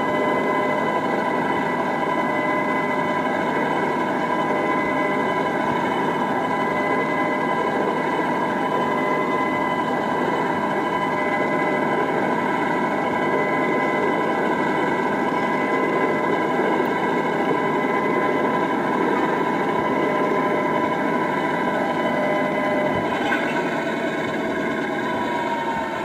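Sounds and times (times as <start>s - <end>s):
constant whining tones: 0.0s - 26.0s
model locomotive engine drone: 0.0s - 26.0s.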